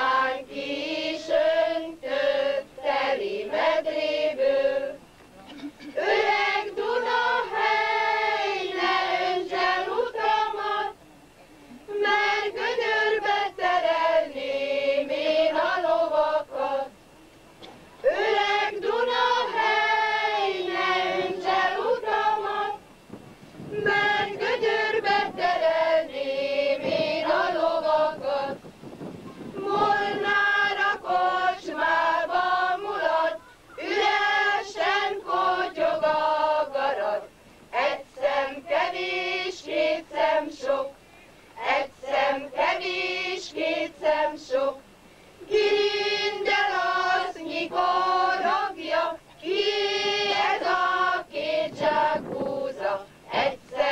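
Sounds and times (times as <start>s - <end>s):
choir of high voices singing: 0.0s - 5.0s, 5.9s - 11.0s, 11.9s - 17.0s, 18.0s - 22.8s, 23.6s - 28.6s, 29.4s - 41.0s, 41.6s - 44.8s, 45.4s - 53.9s.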